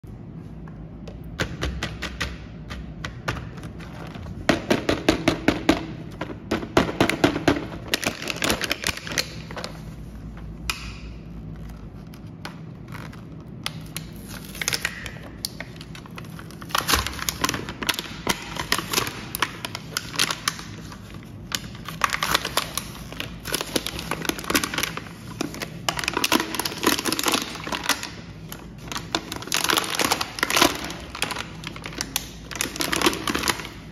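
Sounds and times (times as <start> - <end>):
plastic blister packaging crackling: 2.8 - 33.9.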